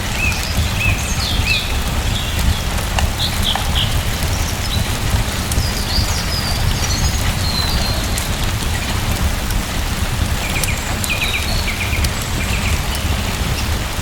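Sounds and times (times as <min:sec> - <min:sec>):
raindrop ticks: 0:00.0 - 0:14.0
steady rain falling: 0:00.0 - 0:14.0.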